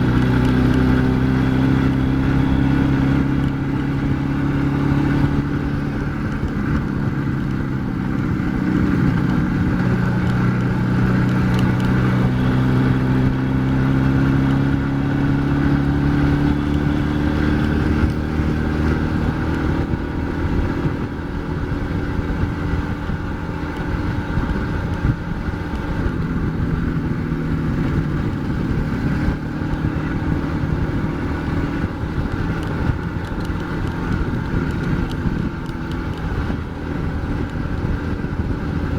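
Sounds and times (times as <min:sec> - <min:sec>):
motorcycle two-stroke engine running: 0:00.0 - 0:38.9.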